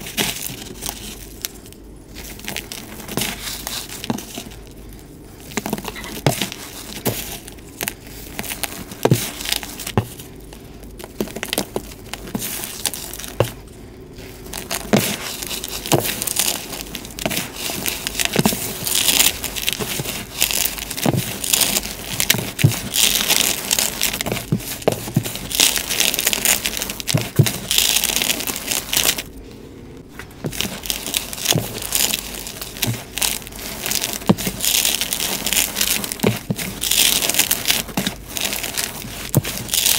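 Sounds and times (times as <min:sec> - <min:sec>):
hands crushing chalk: 0:00.0 - 0:29.4, 0:30.1 - 0:39.9.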